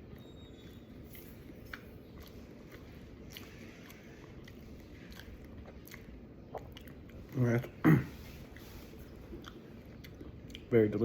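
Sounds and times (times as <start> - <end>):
crunchy chewing: 0.0 - 10.8.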